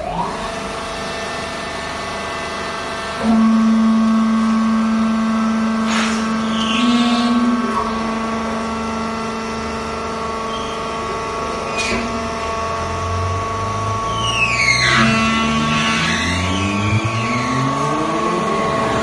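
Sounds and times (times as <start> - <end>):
baler motor hum and whine: 0.0 - 19.0
loud steady drone: 0.0 - 19.0.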